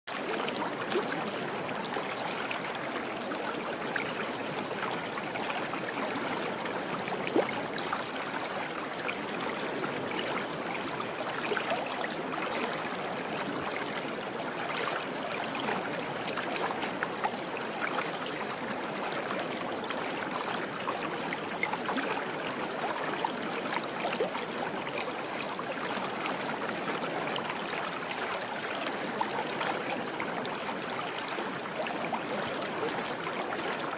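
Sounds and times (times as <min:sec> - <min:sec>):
flowing water: 0:00.1 - 0:33.9.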